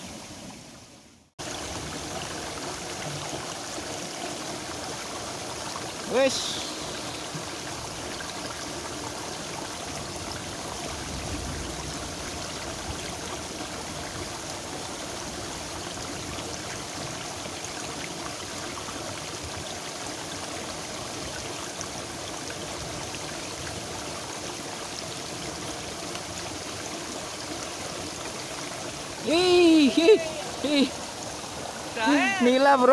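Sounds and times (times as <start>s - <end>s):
water running in a ditch: 0.0s - 32.9s.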